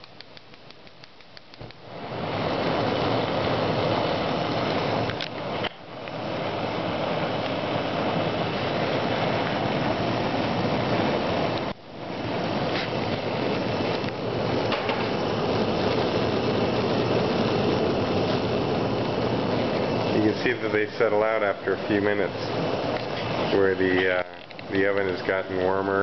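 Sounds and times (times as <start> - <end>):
gas burners roaring: 0.0 - 26.0.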